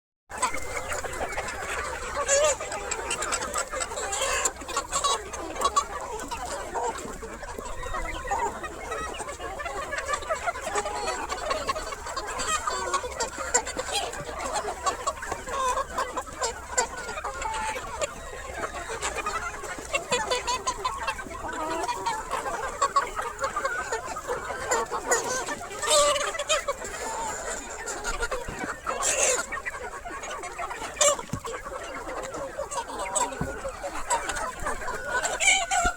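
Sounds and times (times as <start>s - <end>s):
chickens clucking: 0.3s - 35.9s.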